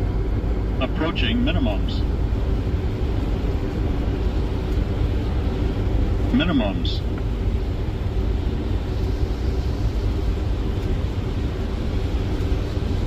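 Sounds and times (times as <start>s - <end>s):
airflow and engine rumble: 0.0s - 13.0s.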